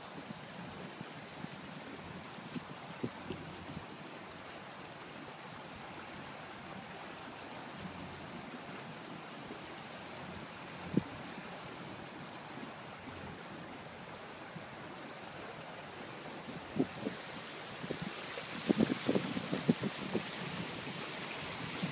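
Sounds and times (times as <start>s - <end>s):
water rushing along hull: 0.0s - 21.9s.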